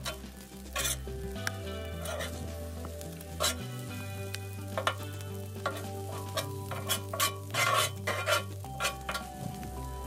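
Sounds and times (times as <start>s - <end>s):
metal spatula scraping griddle: 0.0s - 1.2s, 1.9s - 4.0s, 4.7s - 9.7s
rice sizzling: 0.0s - 10.0s.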